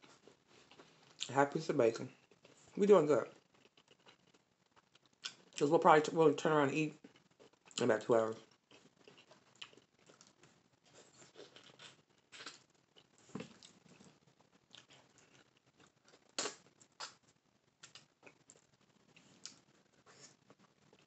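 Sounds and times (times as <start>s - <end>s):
chewing: 0.0s - 1.3s, 2.1s - 5.6s, 7.0s - 17.2s, 17.8s - 21.0s.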